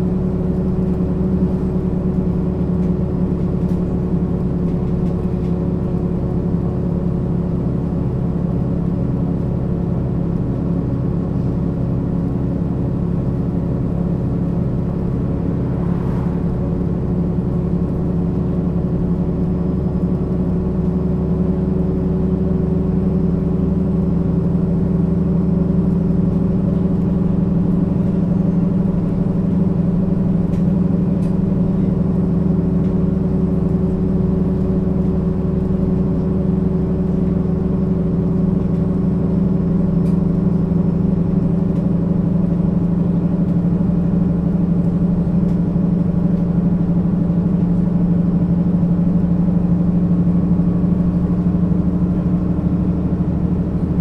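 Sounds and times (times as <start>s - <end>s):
bus engine idling: 0.0s - 54.0s.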